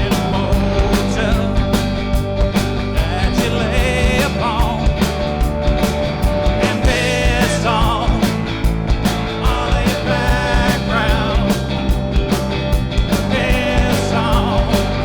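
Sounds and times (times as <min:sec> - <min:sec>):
drums beating: 0:00.0 - 0:15.0
live rock band playing: 0:00.0 - 0:15.0.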